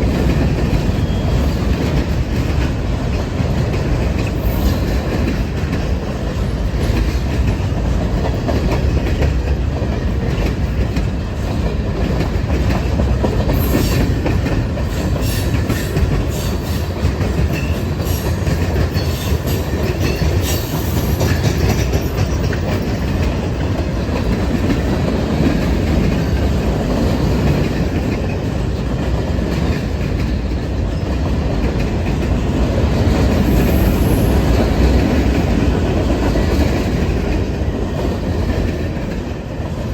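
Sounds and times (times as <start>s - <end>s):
freight train wheels clacking: 0.0s - 39.9s
train low rumble: 0.0s - 39.9s.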